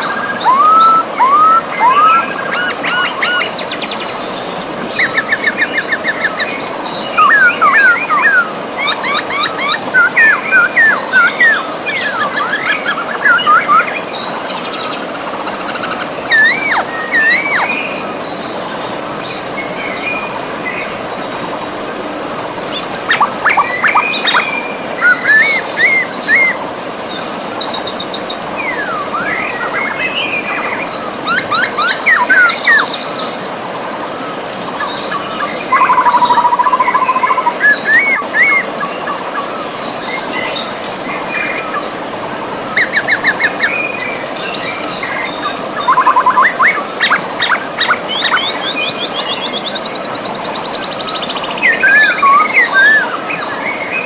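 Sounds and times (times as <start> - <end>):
birds singing: 0.0 - 54.0
river flowing: 0.0 - 54.0.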